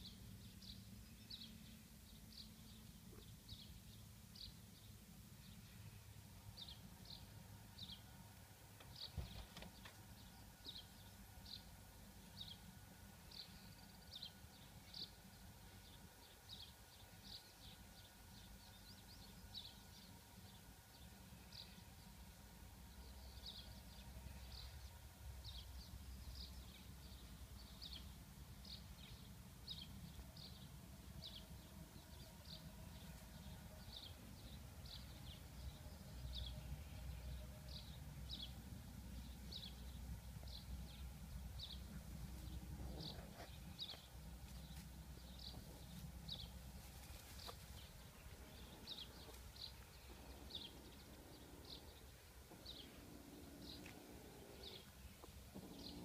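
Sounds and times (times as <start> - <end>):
bird chirping: 0.0 - 8.2, 8.8 - 56.0
low outdoor rumble: 0.0 - 56.0.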